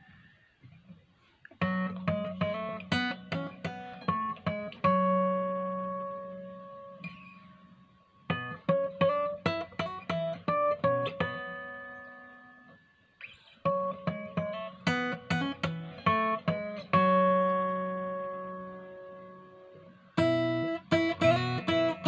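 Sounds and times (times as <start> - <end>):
acoustic guitar chord ringing: 1.6 - 22.0
acoustic guitar plucked notes: 1.6 - 22.0.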